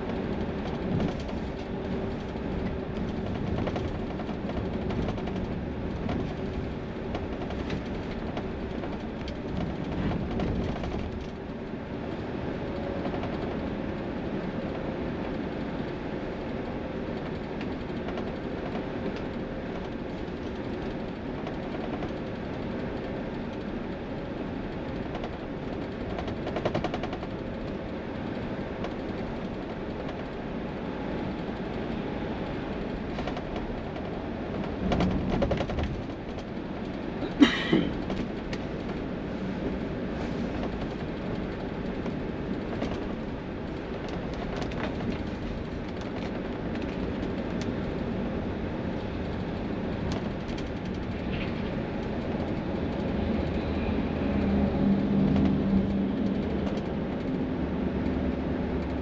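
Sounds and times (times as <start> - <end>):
highway traffic rumble: 0.0 - 59.0.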